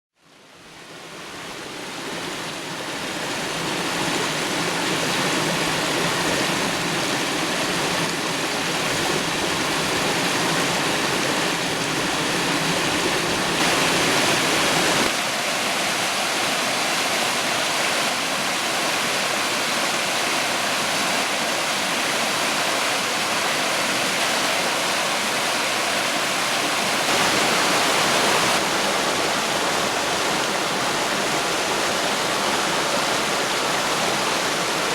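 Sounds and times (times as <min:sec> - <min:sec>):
stream rushing over rocks: 0:00.2 - 0:34.9.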